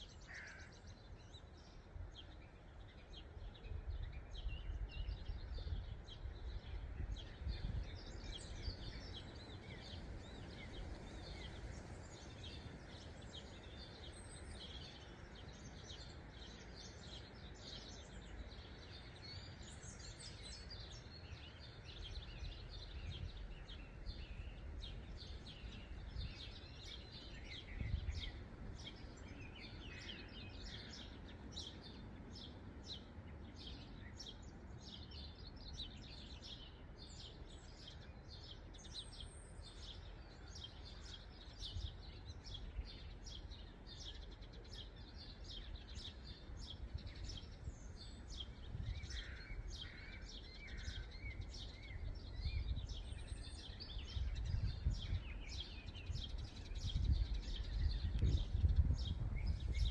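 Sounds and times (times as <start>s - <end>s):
songbirds singing and calling: 0.0s - 59.9s.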